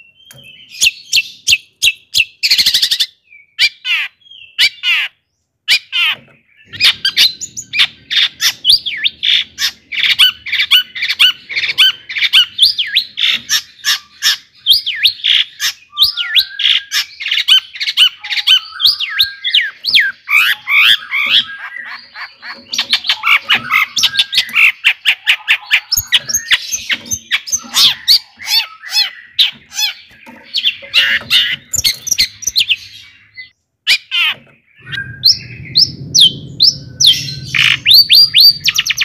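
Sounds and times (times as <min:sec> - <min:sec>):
bird squawking and chirping: 0:00.0 - 0:39.0.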